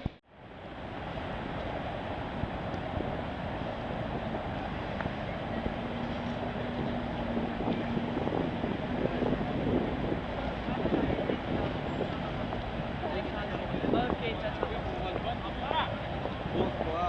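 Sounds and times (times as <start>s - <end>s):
steady rumbling: 0.0s - 17.0s
wind buffeting microphone: 0.0s - 17.0s.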